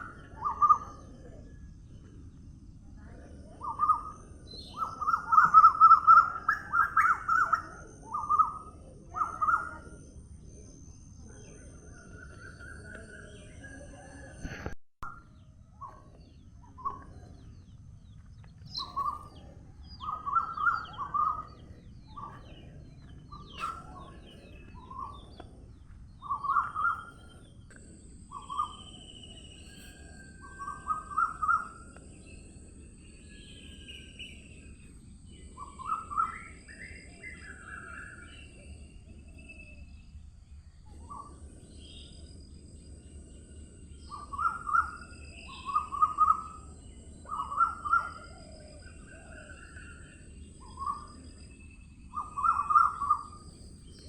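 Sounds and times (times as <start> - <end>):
birds chirping: 0.0 - 54.0
faint high bird calls: 0.0 - 54.0.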